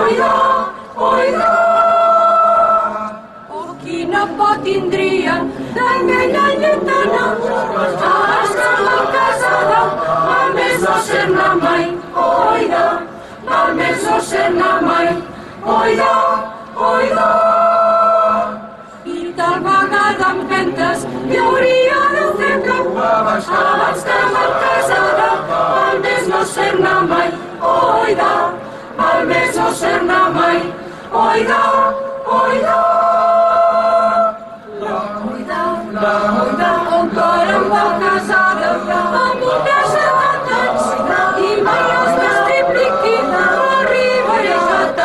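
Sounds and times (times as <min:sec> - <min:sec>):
mixed choir singing a cappella: 0:00.0 - 0:45.0.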